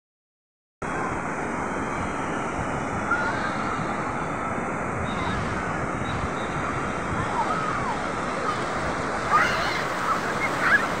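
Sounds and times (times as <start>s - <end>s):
waves breaking over sand and rocks: 0.8s - 11.0s.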